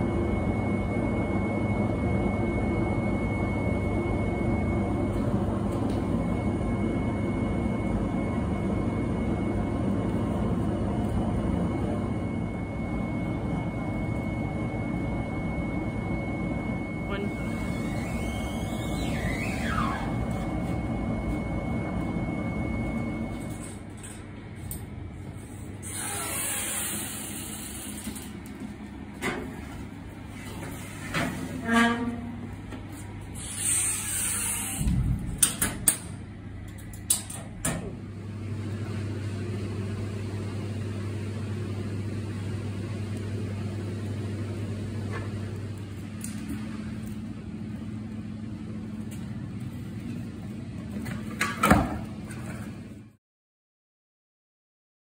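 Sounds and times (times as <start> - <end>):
low mechanical rumble: 0.0 - 53.2
steady low hum: 0.0 - 53.2.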